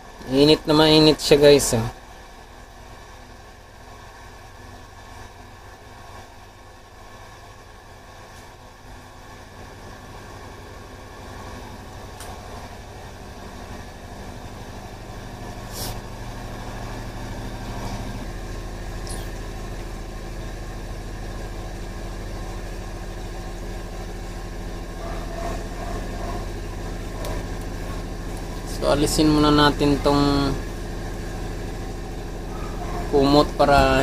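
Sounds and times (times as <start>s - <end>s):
low motor hum: 0.0s - 34.0s.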